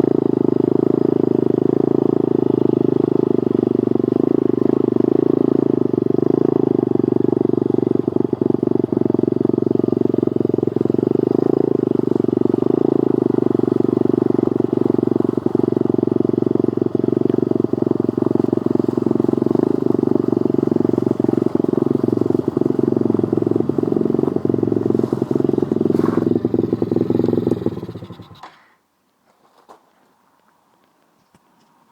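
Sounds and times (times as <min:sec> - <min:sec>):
small motorcycle engine running: 0:00.0 - 0:28.7.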